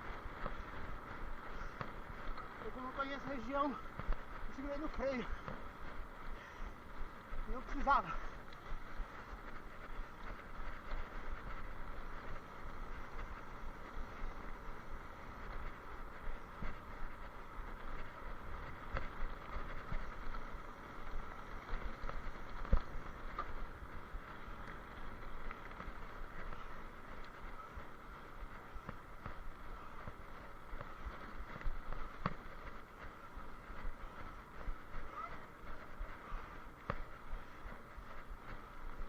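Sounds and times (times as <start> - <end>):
rolling noise over rough ground: 0.0 - 39.0
wind: 0.0 - 39.0.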